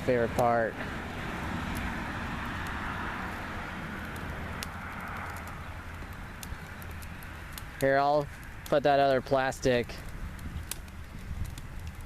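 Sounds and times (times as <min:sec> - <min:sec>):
fire crackling: 0:00.0 - 0:12.0
fire hissing: 0:00.0 - 0:12.0.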